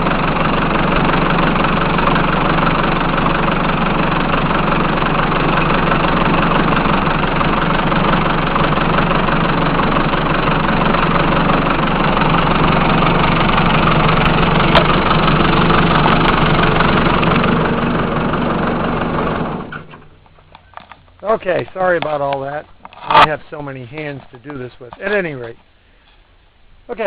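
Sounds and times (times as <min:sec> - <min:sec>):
backhoe engine idling: 0:00.0 - 0:27.0.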